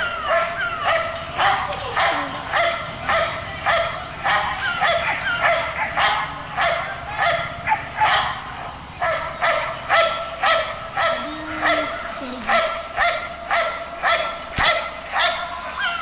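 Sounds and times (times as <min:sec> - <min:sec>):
puppies barking and yipping: 0:00.0 - 0:16.0.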